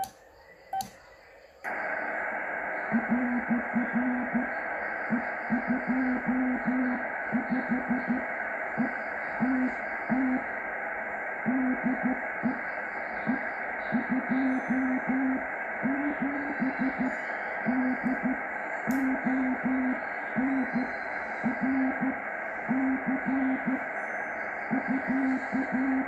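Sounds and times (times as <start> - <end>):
radio receiver hiss: 0.0 - 26.0.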